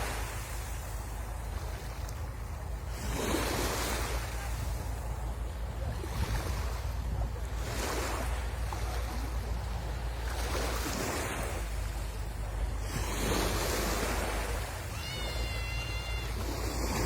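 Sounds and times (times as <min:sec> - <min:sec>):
wind rumble on microphone: 0:00.0 - 0:15.0
sea waves breaking on shore: 0:00.0 - 0:17.0.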